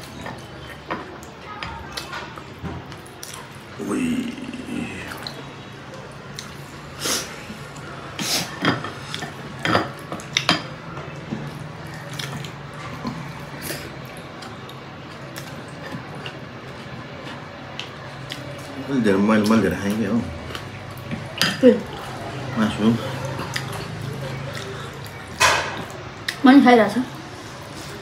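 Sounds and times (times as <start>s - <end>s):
soft wet food sounds: 0.0s - 26.5s.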